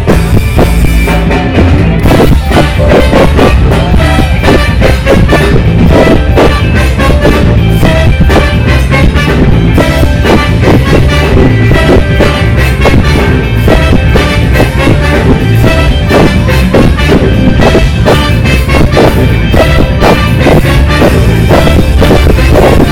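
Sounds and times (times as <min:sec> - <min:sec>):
drum kit beat: 0:00.0 - 0:22.9
heavy bass line: 0:00.0 - 0:22.9
live funk band playing: 0:00.0 - 0:22.9.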